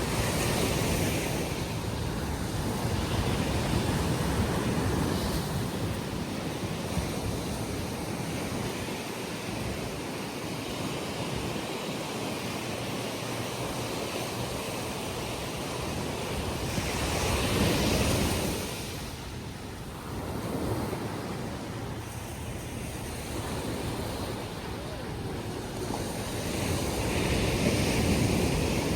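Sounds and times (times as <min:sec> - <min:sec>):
sea waves breaking on beach: 0:00.0 - 0:28.9
wind on microphone: 0:00.0 - 0:28.9.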